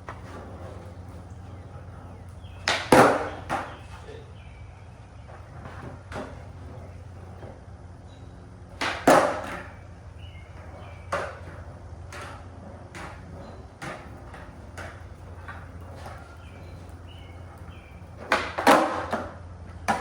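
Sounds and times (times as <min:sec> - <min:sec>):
skateboard clacking on pavement: 0:00.0 - 0:20.0
steady low hum: 0:00.0 - 0:20.0.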